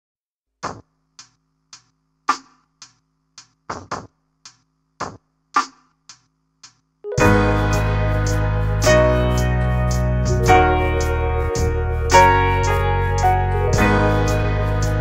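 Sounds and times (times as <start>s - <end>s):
electronic percussion beat: 0.6s - 15.0s.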